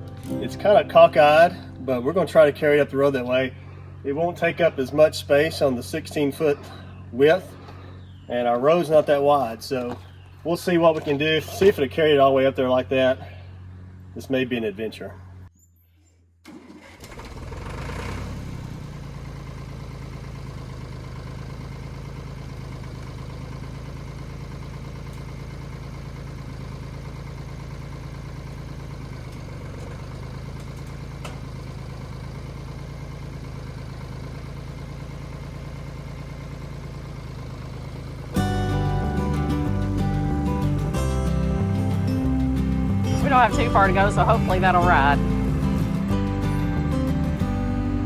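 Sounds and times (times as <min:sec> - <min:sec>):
tractor engine running: 0:00.0 - 0:15.5, 0:16.5 - 0:48.0.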